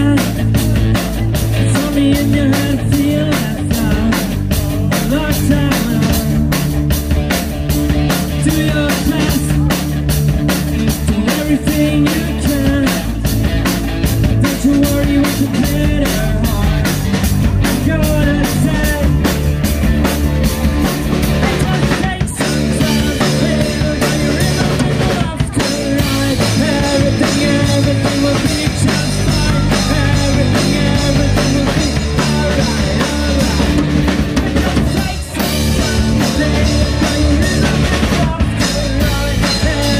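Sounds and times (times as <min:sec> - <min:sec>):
person singing: 0:00.0 - 0:07.4, 0:08.1 - 0:39.9
bass guitar: 0:00.0 - 0:39.9
drum kit beat: 0:00.0 - 0:39.9
electric guitars: 0:00.0 - 0:39.9.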